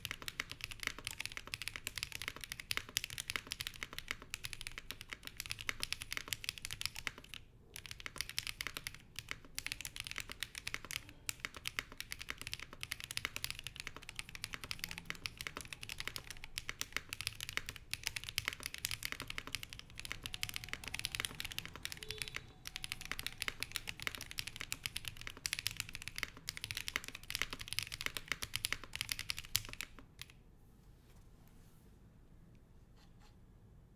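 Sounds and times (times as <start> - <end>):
fast mechanical keyboard typing: 0.0 - 30.4.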